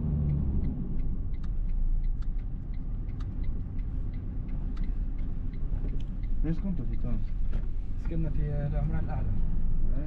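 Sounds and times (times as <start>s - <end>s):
car road noise and engine rumble: 0.0s - 10.0s.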